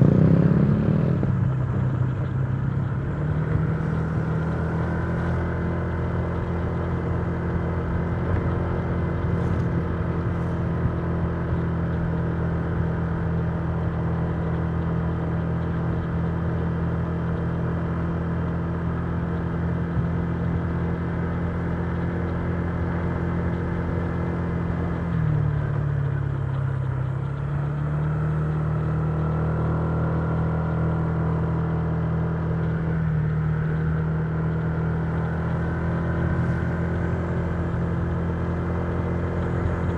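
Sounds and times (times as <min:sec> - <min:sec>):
scooter engine cruising: 0:00.0 - 0:39.9
wind and road noise: 0:00.0 - 0:39.9.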